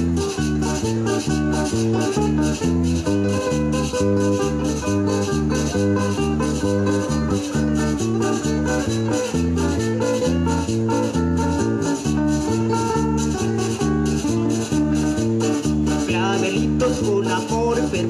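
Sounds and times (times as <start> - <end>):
bass: 0.0 - 18.0
maraca rhythm: 0.0 - 18.0
plucked guitars: 0.0 - 18.0.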